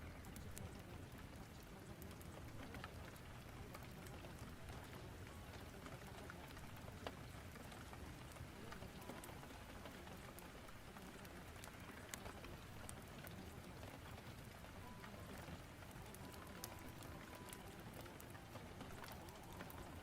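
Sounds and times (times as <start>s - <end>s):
faint rain hiss: 0.0s - 20.0s
fire crackling and popping: 0.0s - 20.0s.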